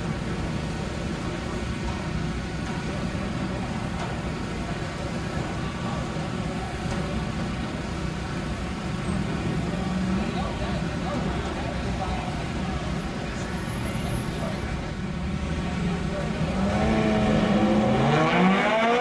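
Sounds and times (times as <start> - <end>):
car engines running: 0.0 - 19.0.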